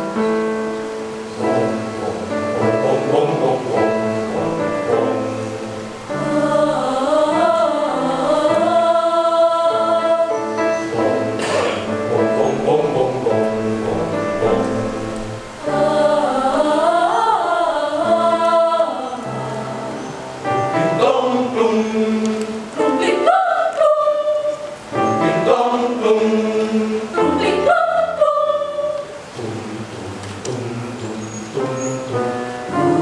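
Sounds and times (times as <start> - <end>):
youth choir singing: 1.3 - 33.0.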